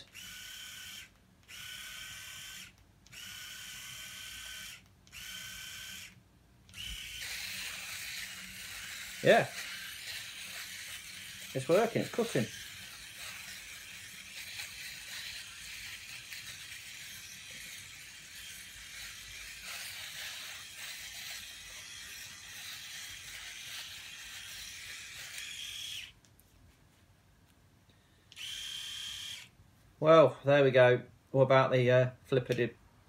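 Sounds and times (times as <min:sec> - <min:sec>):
electric shaver buzzing: 0:00.0 - 0:26.2, 0:28.3 - 0:29.5.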